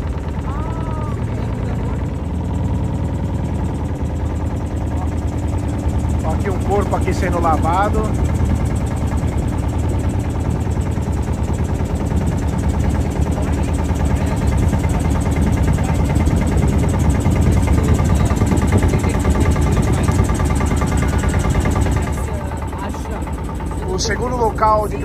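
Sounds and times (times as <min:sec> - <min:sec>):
boat engine throbbing: 0:00.0 - 0:25.0.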